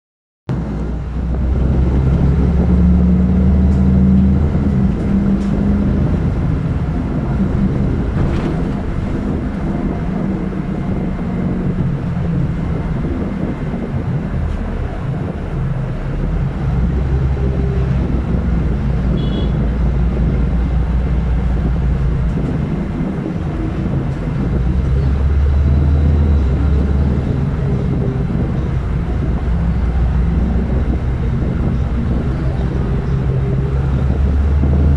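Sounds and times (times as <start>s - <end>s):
bus engine and road rumble: 0.5s - 34.9s.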